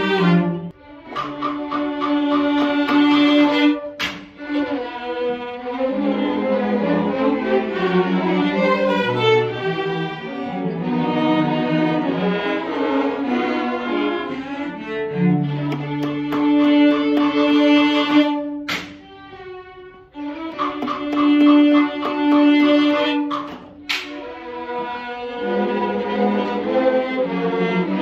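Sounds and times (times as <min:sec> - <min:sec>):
string orchestra playing: 0:00.0 - 0:28.0
violin bowed close by: 0:00.0 - 0:28.0.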